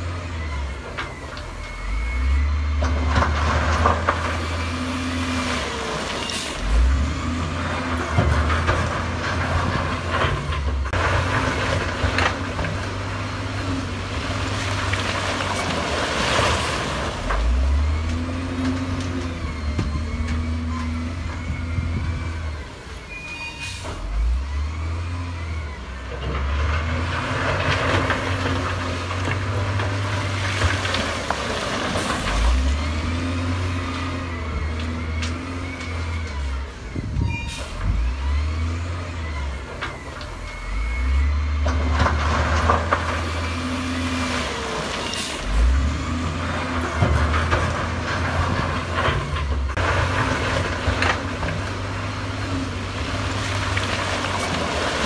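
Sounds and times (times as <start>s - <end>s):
diesel machinery engines revving: 0.0s - 55.0s.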